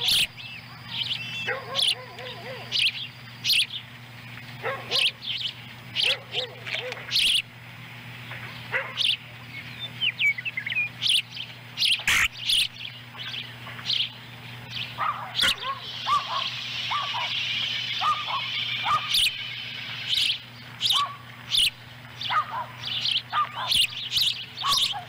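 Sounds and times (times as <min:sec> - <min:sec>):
low electrical hum: 0:00.0 - 0:25.0
ospreys chirping: 0:00.0 - 0:25.0.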